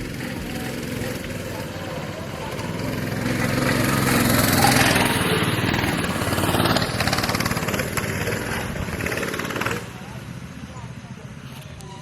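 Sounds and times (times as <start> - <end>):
mini bike engines running hard: 0.0 - 12.0.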